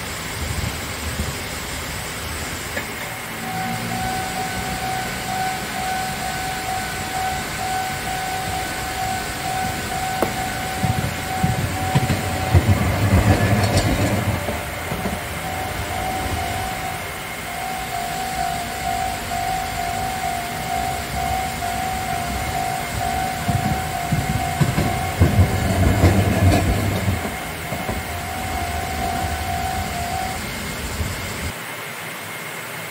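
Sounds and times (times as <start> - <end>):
train rumbling over rails: 0.0 - 31.8
level crossing warning bell: 2.9 - 31.6.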